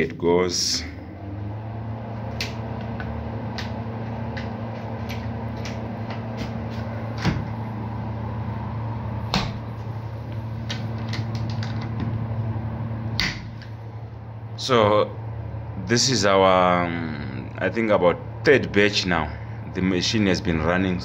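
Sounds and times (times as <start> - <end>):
incubator humming: 0.0 - 21.0.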